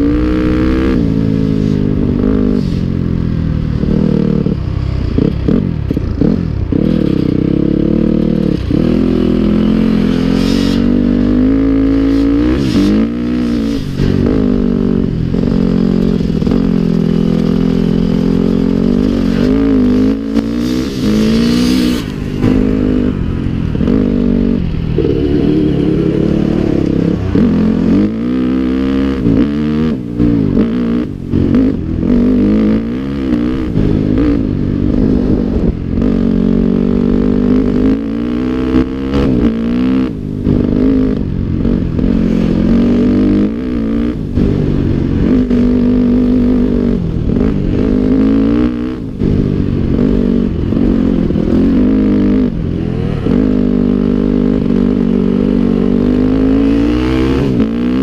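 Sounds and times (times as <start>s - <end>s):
dirt bike engine revving: 0.0s - 2.9s, 3.7s - 58.0s.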